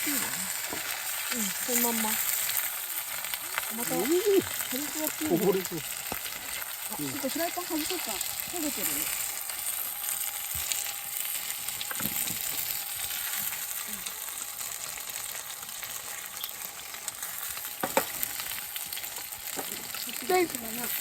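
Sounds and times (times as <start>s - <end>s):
dumplings sizzling in frying pan: 0.0s - 21.0s.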